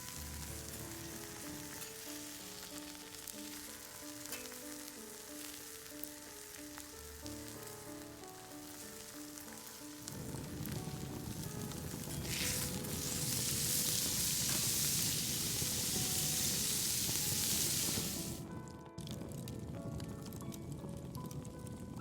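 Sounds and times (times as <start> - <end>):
light background melody: 0.0 - 22.0
meat sizzling over charcoal: 0.0 - 22.0.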